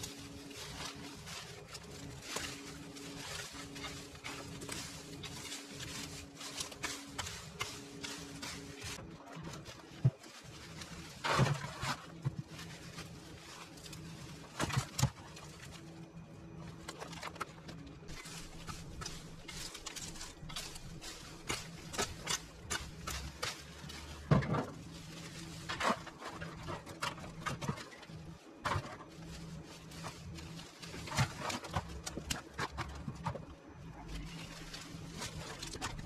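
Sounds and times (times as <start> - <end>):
rustling and snapping plant stems: 0.0 - 15.9, 16.7 - 36.0.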